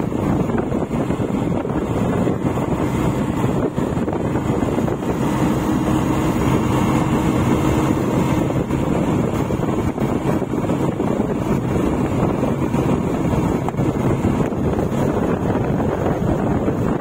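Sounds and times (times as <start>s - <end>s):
road hum of bike: 0.0s - 17.0s
wind rush on microphone: 0.0s - 17.0s.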